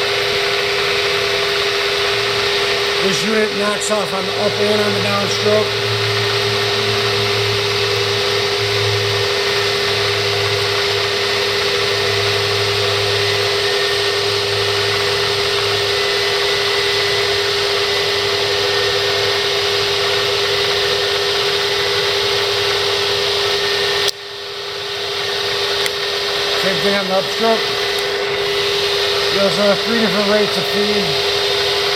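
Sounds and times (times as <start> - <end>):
low hum: 0.0 - 31.9
milling machine motor whine and hum: 0.0 - 31.9.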